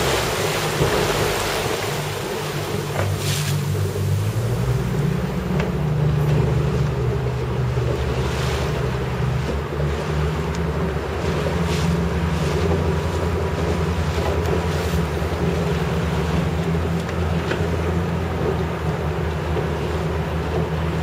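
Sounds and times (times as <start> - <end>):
boat motor droning: 0.0 - 21.0
water rushing along hull: 0.0 - 21.0.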